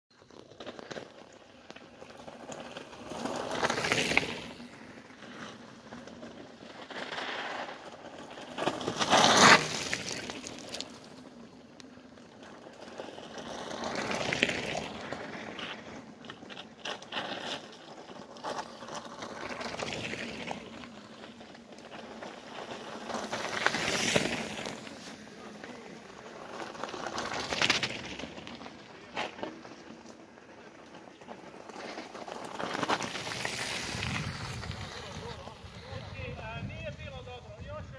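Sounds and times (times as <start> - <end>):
bike tyres crunching on gravel: 0.1 - 37.9.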